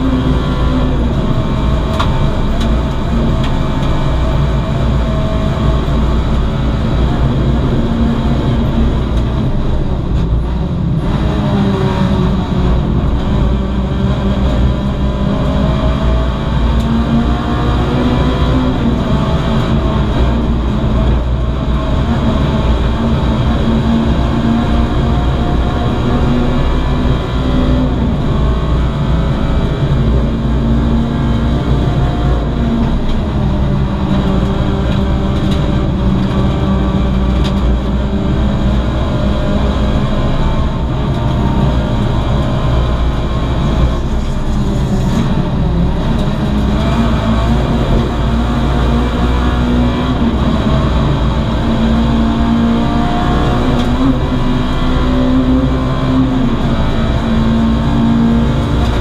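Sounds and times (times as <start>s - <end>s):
race car engine revving: 0.0s - 59.0s
wind and road noise: 0.0s - 59.0s.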